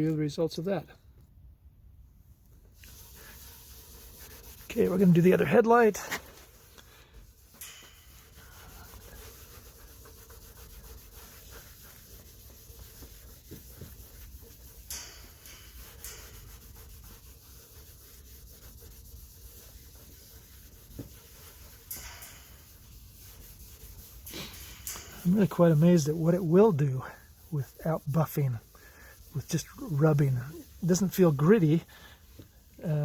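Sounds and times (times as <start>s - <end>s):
hand scrubbing plastic lens: 2.5s - 32.9s.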